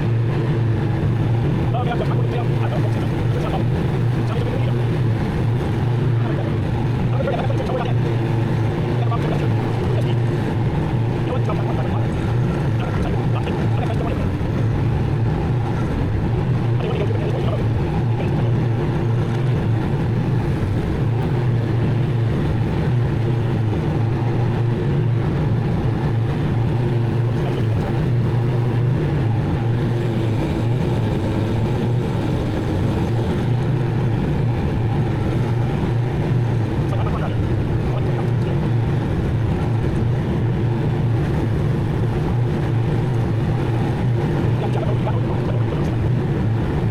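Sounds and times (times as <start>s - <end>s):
mower engine running: 0.0s - 46.9s.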